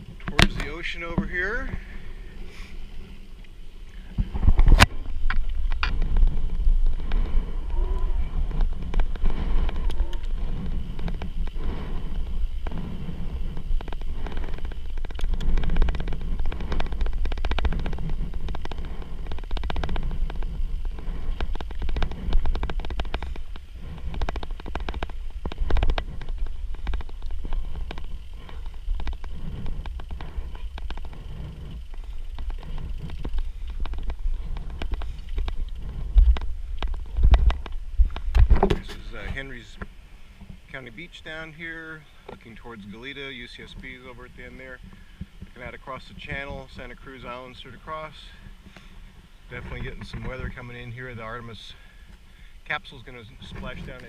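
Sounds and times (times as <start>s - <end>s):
bike rattling and knocking: 0.0s - 2.4s, 4.1s - 54.0s
wind rumble on microphone: 0.0s - 54.0s.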